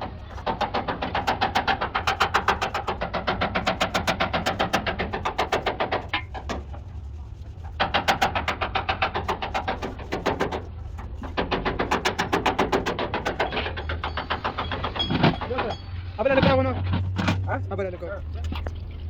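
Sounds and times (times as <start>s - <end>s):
fast regular knocking: 0.0s - 17.6s
steady low hum: 0.0s - 19.0s.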